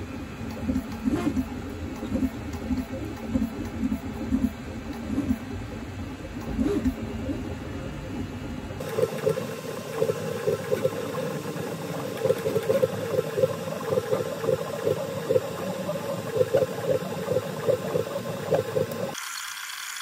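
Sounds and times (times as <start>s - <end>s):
stepper motors buzzing: 0.0s - 20.0s.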